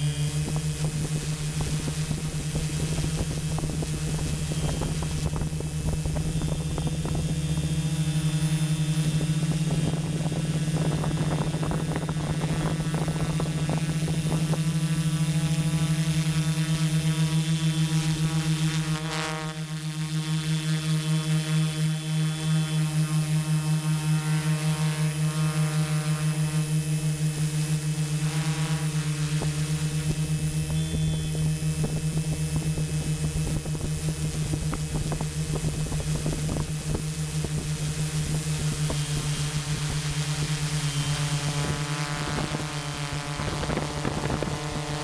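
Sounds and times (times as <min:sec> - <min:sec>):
drone motors humming: 0:00.0 - 0:45.0.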